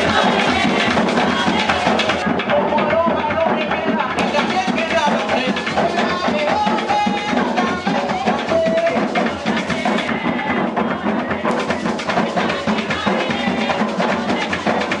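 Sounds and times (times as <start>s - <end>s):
hand drums playing rhythm: 0.0s - 15.0s.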